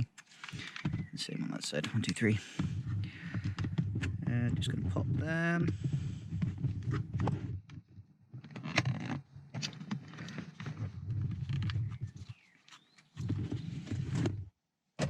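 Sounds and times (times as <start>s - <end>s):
plastic scraping and handling: 0.0s - 14.5s.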